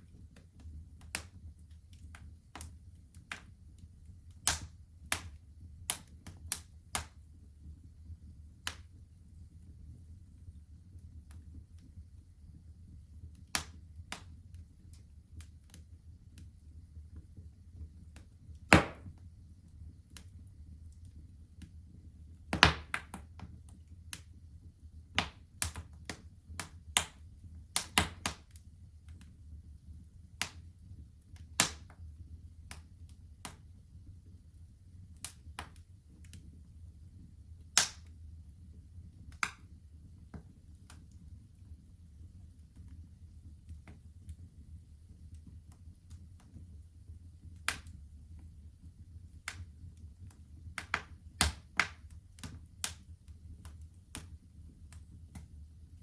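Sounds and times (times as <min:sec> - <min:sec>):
fire pops and snaps: 0:00.0 - 0:07.8, 0:08.4 - 0:09.8, 0:13.0 - 0:29.4, 0:30.3 - 0:33.8, 0:35.1 - 0:36.6, 0:37.6 - 0:38.2, 0:39.1 - 0:41.7, 0:42.4 - 0:56.0
wood fire crackling: 0:00.0 - 0:56.0.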